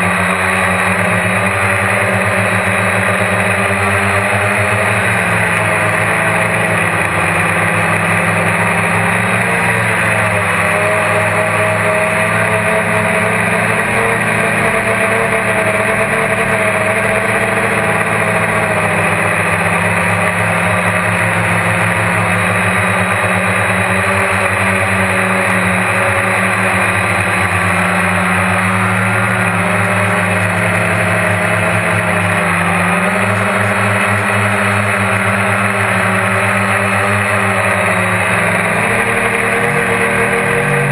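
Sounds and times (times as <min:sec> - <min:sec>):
quadcopter motors whirring: 0:00.0 - 0:40.9.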